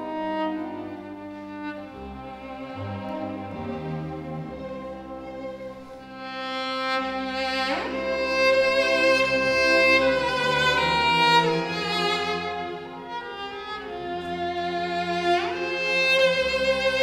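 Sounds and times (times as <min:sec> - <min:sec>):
solo cello melody: 0:00.0 - 0:17.0
string orchestra accompaniment: 0:00.0 - 0:17.0.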